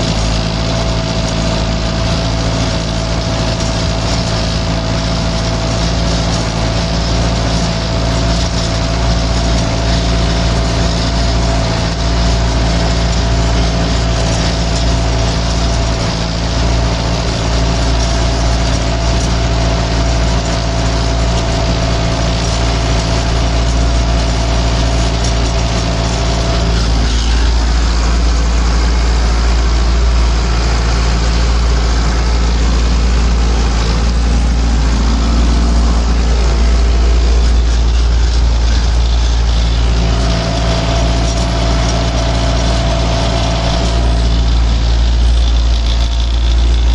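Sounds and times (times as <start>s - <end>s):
steady whine: 0.0s - 46.9s
tractor diesel engine under load: 0.0s - 46.9s.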